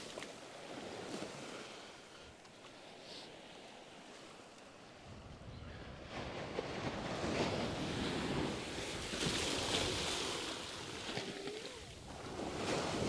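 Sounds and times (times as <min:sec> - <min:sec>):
surf washing up a beach: 0:00.0 - 0:02.1, 0:02.7 - 0:13.0.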